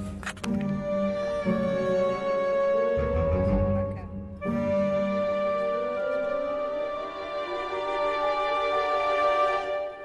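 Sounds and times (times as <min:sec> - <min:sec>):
soft music with sustained notes: 0:00.0 - 0:10.0.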